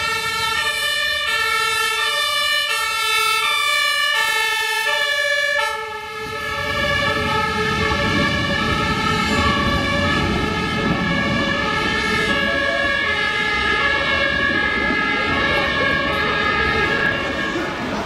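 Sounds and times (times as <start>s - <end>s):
tram rumbling past: 0.0s - 18.0s
two-tone sirens: 0.0s - 18.0s.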